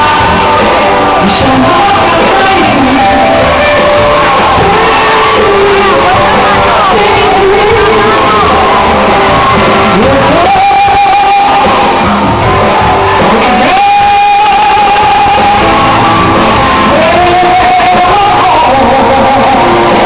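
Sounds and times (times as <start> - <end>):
band playing with guitar: 0.0 - 20.0.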